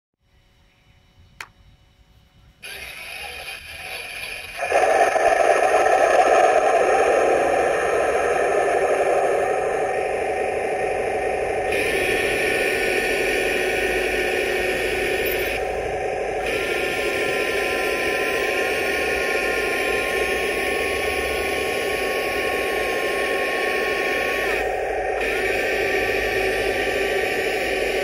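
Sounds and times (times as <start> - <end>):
turret whine: 0.2 - 28.0
model tank running: 2.6 - 10.4, 11.6 - 28.0.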